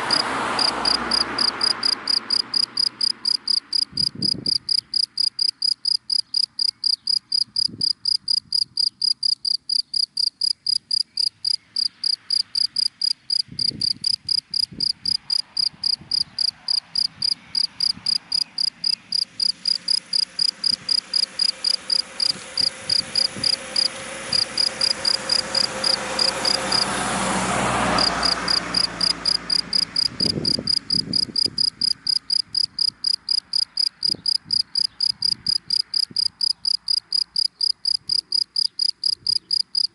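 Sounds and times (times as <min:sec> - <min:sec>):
car passing: 0:00.0 - 0:06.6, 0:10.2 - 0:39.9
cricket chirping: 0:00.0 - 0:27.0, 0:27.9 - 0:39.9.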